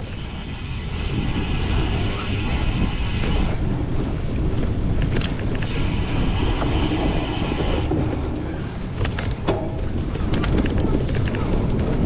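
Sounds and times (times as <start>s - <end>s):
bike rattling and creaking: 0.0s - 12.0s
wind buffeting microphone: 0.0s - 12.0s.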